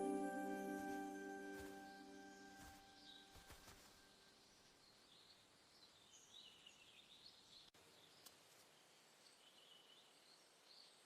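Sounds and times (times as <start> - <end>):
light outdoor hiss: 1.6 - 11.0.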